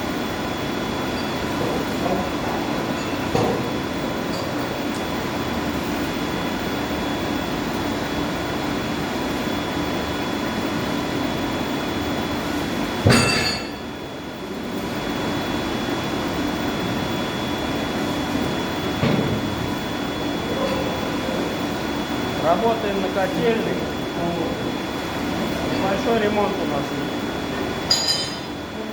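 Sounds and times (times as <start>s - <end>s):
constant hum: 0.0s - 28.9s.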